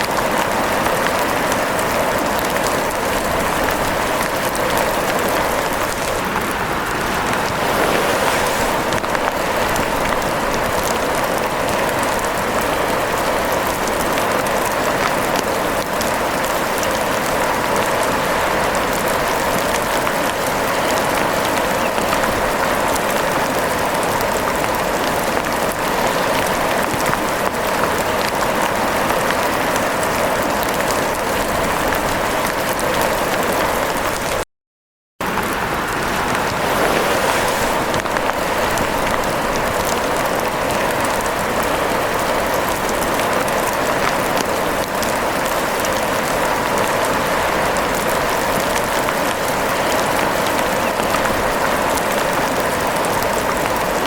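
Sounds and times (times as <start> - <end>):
steady rain hiss: 0.0 - 33.6, 35.2 - 54.0.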